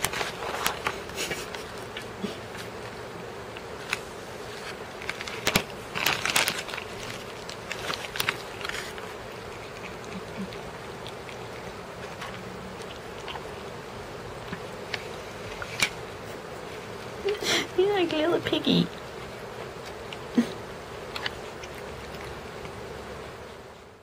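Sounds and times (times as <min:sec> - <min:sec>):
cat crunching treats: 0:00.0 - 0:17.5, 0:18.9 - 0:22.9
steady buzzing hum: 0:00.0 - 0:24.0.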